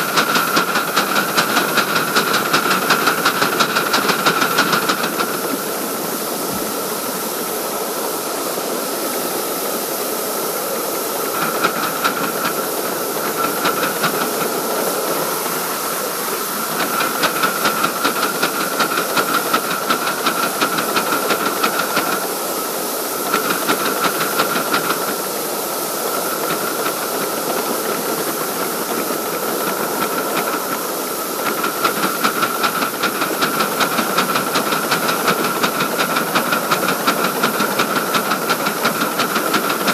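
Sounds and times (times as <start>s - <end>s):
rapid steam locomotive beats: 0.0s - 39.9s
steam hissing: 0.0s - 39.9s.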